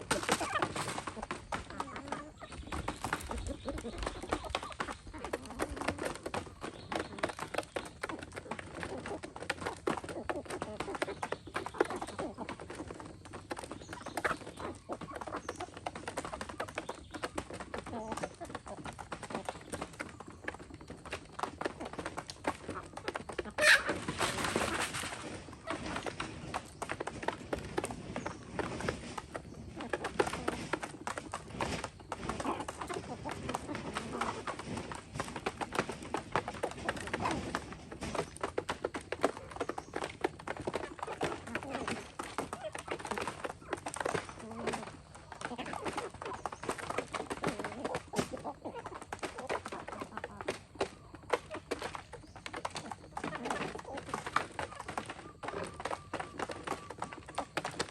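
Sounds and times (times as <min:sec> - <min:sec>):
chickens clucking: 0:00.0 - 0:57.9.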